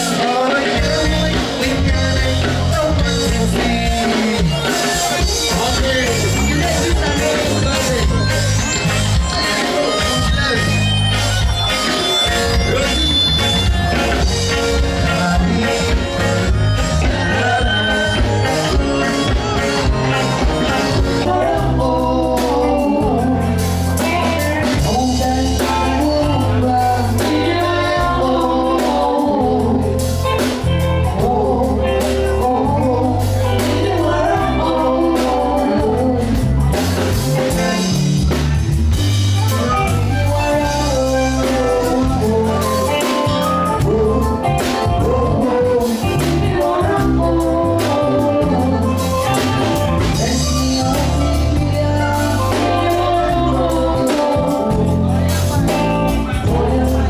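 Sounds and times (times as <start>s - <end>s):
band playing: 0.0s - 57.0s
person singing: 0.0s - 57.0s.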